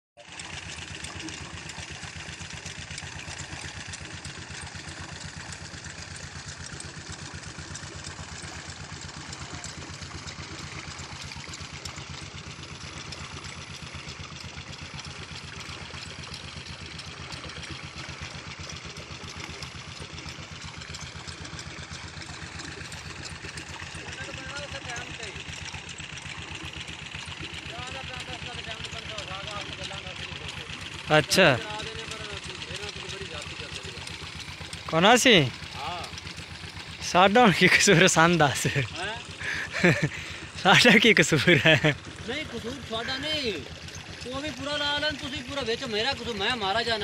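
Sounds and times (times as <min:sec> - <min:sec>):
engine idling chugging: 0:00.2 - 0:47.0.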